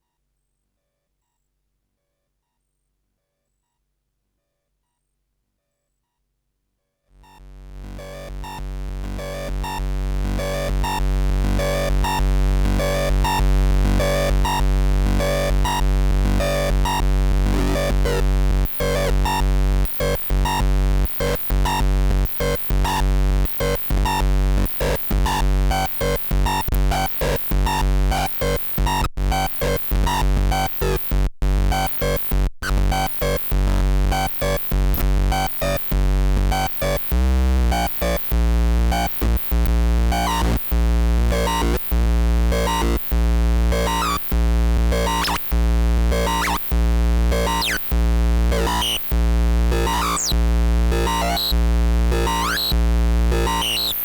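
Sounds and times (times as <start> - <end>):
deep electronic drone: 7.2 - 54.0
electronic pulses and clicks: 7.2 - 54.0.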